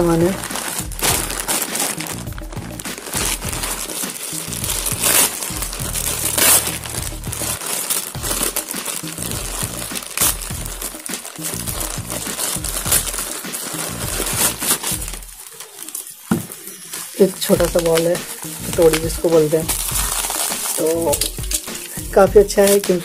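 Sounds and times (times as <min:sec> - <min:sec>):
background music: 0:00.0 - 0:23.0
plastic mailer bag crinkling: 0:00.0 - 0:23.0.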